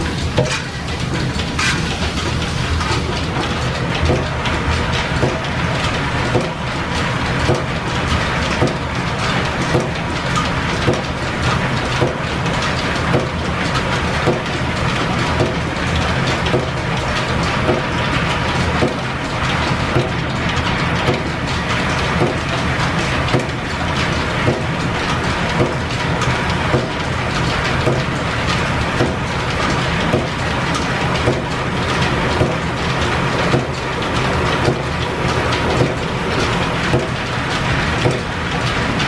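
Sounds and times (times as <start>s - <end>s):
lathe belts and shafting turning: 0.0s - 39.0s.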